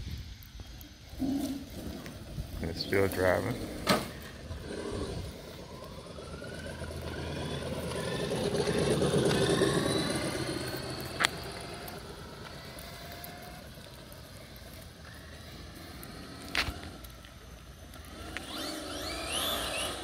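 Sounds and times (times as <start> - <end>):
electric motor whine: 0.0 - 20.0
tyre noise on asphalt: 0.0 - 20.0.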